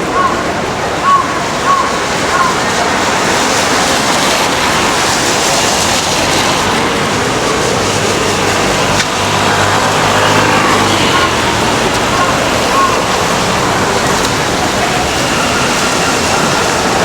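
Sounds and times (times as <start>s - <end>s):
crowd noise: 0.0s - 17.0s
traffic: 0.0s - 17.0s
vehicle engine hum: 0.0s - 17.0s.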